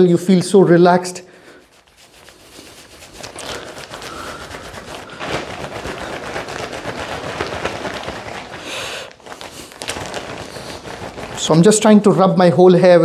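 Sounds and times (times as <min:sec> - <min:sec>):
hair being scrubbed: 0:01.5 - 0:12.0.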